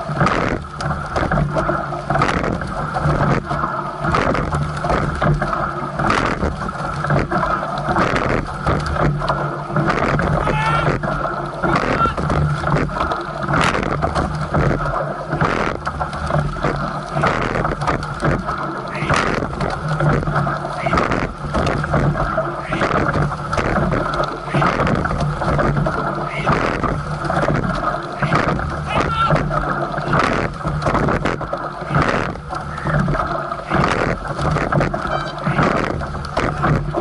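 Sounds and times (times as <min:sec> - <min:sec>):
oar and seat noise: 0:00.0 - 0:37.0
water rushing past boat: 0:00.0 - 0:37.0.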